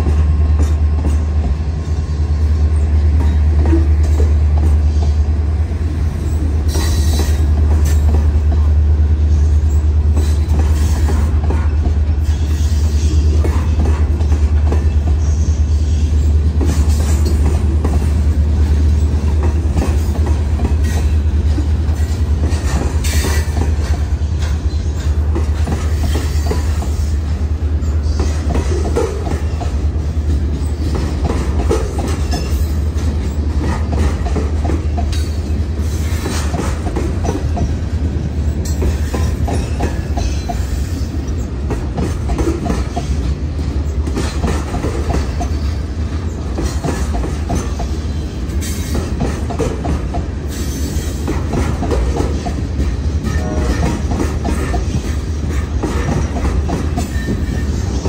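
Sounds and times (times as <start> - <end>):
freight train low rumble: 0.0 - 58.0
wheels clacking over rail joints: 2.6 - 58.0.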